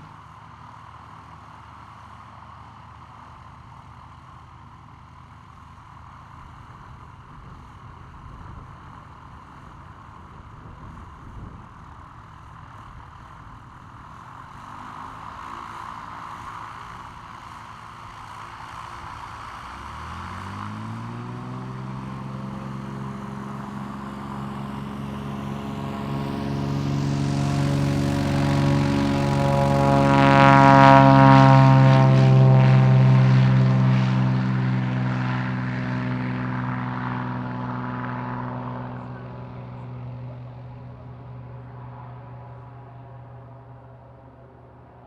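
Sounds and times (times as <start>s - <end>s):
propeller aircraft engine: 0.0s - 45.0s.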